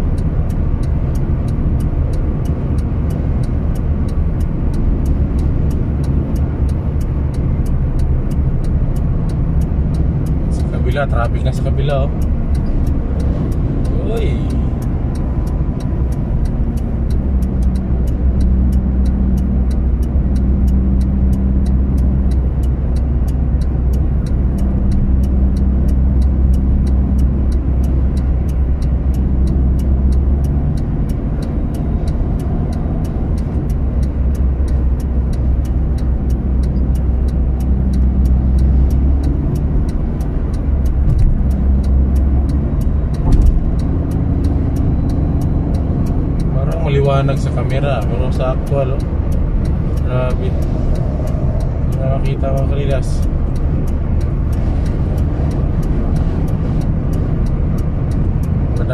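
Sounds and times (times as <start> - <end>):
road and engine drone in car: 0.0 - 58.9.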